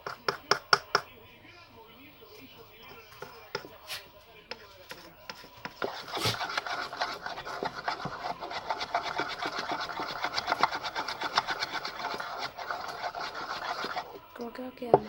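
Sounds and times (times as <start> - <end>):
spoon beating slime in a bowl: 0.0 - 1.2, 2.7 - 14.3.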